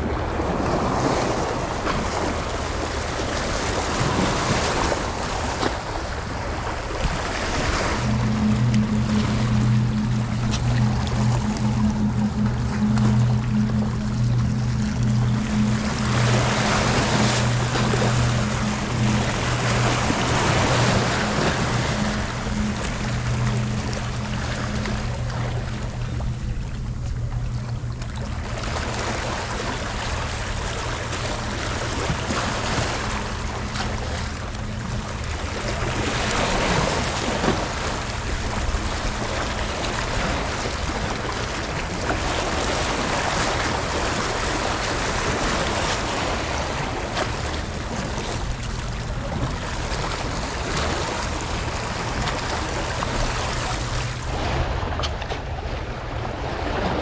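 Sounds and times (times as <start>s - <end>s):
sea waves washing on shore: 0.0s - 57.0s
steady low hum: 0.0s - 57.0s.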